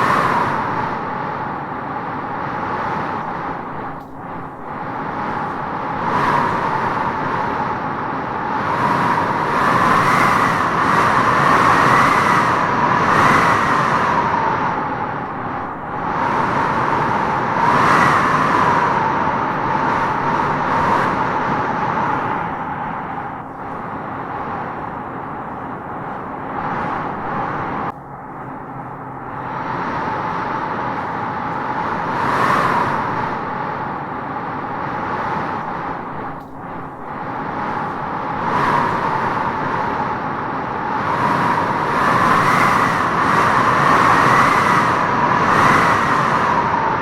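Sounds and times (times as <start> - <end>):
wind howling through trees: 0.0 - 47.0.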